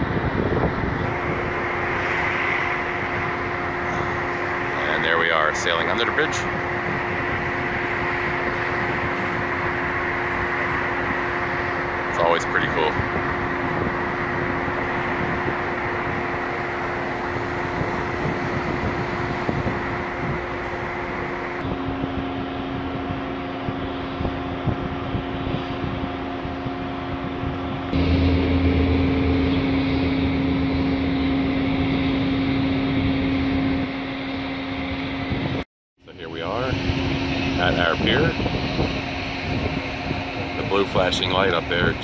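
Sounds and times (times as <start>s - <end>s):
ship machinery hum: 0.0s - 42.0s
wind rumbling on microphone: 0.0s - 42.0s.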